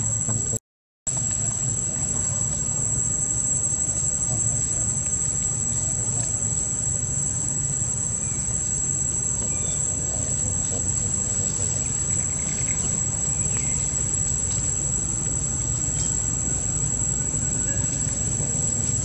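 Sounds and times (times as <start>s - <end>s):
constant low rumble: 0.0s - 19.0s
high-pitched insect drone: 0.0s - 19.0s.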